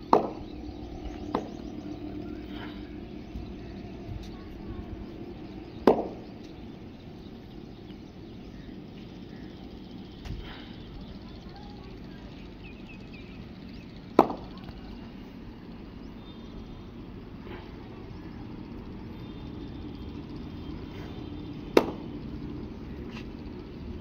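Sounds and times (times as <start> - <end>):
low background noise: 0.0 - 24.0.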